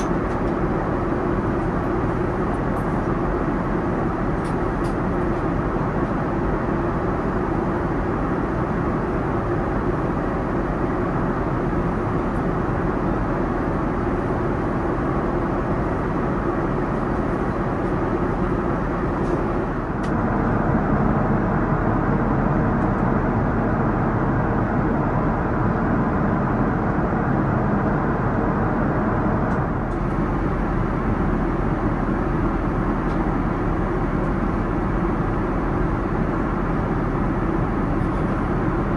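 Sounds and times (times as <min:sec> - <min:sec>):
airliner engine and airflow noise: 0:00.0 - 0:38.9.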